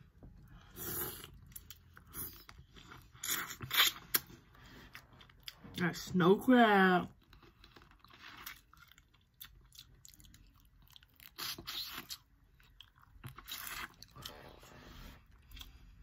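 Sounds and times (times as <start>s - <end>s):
wet chewing with crunches: 0.6s - 5.8s, 7.2s - 16.0s.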